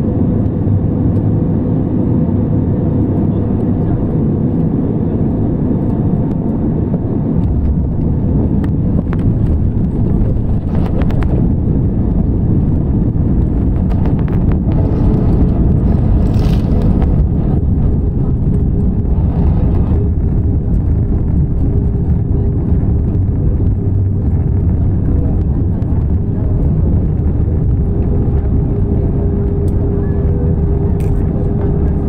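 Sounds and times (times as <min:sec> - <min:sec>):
airplane cabin rumble on landing: 0:00.0 - 0:32.0.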